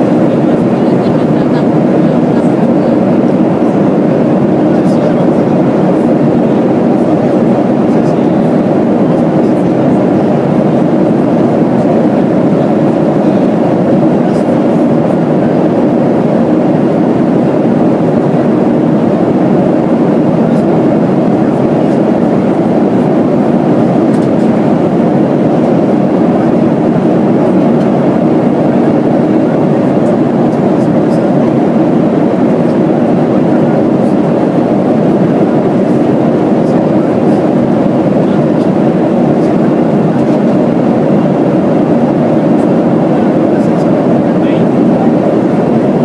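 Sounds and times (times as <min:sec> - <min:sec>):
airplane cabin roar: 0:00.0 - 0:46.0.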